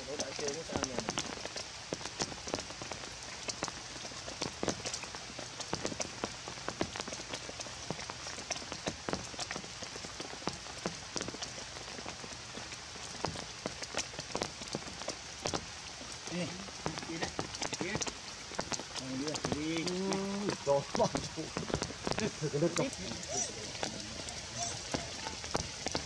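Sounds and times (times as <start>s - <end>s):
rain hissing: 0.0s - 26.0s
raindrops striking leaves and puddles: 0.0s - 26.0s.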